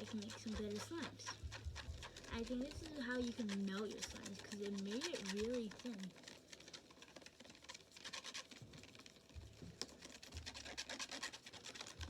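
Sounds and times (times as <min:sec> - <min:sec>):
utensil scraping a container: 0:00.0 - 0:12.0.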